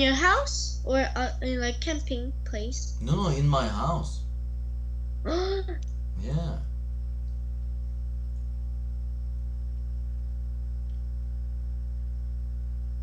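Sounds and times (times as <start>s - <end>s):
faint high whine: 0.0s - 13.0s
low electrical hum: 0.0s - 13.0s.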